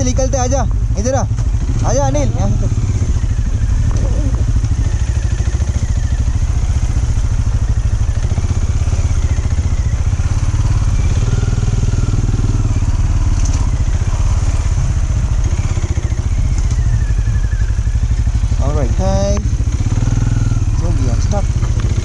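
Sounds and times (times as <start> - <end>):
motorcycle engine running slowly: 0.0 - 22.0.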